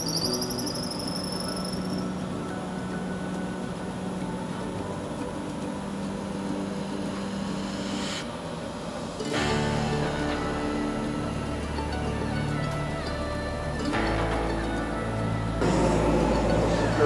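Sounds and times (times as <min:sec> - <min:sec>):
wood lathe humming: 0:00.0 - 0:17.0.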